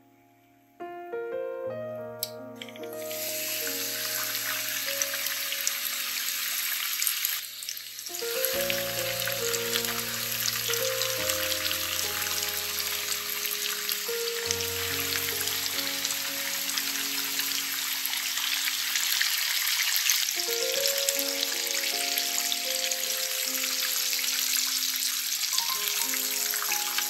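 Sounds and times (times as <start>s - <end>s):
background music: 0.0s - 7.0s, 7.8s - 19.3s, 20.4s - 27.0s
chicken sizzling in frying oil: 2.9s - 27.0s.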